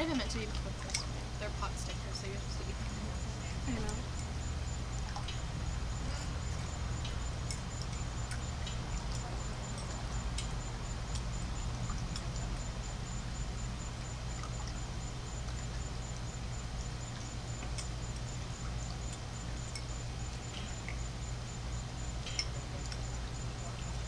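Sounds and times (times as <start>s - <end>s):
low outdoor hum: 0.0s - 24.0s.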